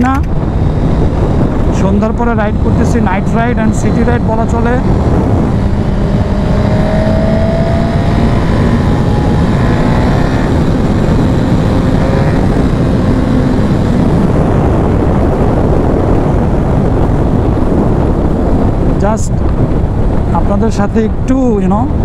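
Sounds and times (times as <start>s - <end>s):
motorcycle engine running: 0.0s - 22.0s
wind noise rushing: 0.0s - 22.0s.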